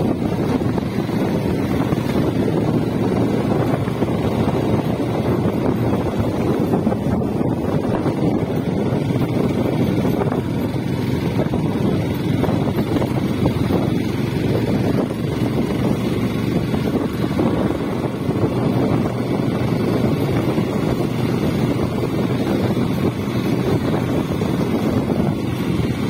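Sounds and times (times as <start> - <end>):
motorcycle engine running: 0.0 - 26.0
wind on microphone: 0.0 - 26.0.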